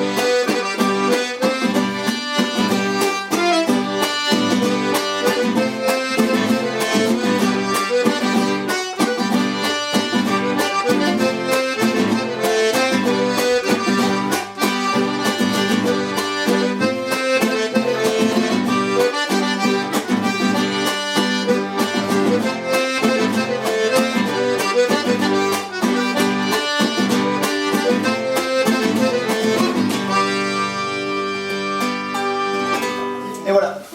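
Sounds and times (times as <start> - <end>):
accordion playing a waltz: 0.0 - 33.6
guitar accompaniment: 0.0 - 33.9.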